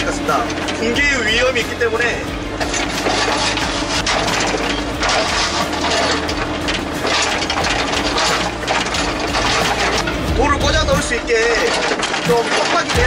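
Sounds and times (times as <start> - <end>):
bucket digging soil and rock: 0.0 - 13.0
excavator engine and hydraulics: 0.0 - 13.0
knocks and clatter: 0.0 - 13.0.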